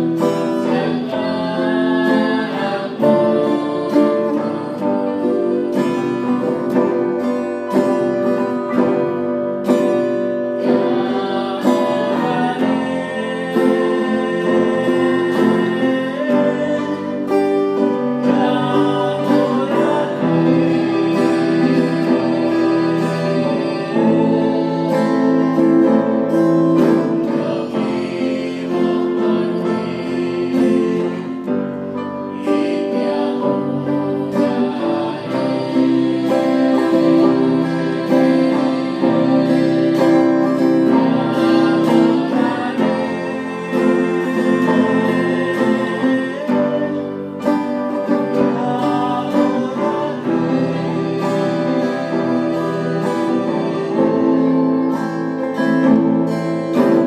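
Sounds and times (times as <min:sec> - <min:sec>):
man singing: 0:00.0 - 0:09.0, 0:09.6 - 0:57.0
acoustic guitar strumming: 0:00.0 - 0:57.0.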